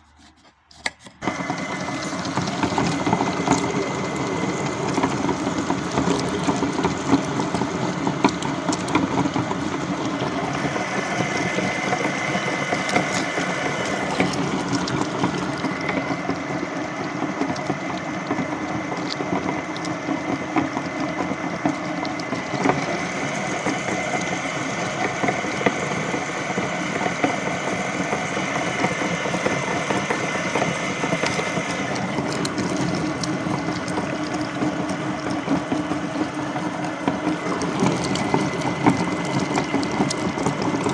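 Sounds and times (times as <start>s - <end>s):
meat grinder running: 1.0s - 40.9s.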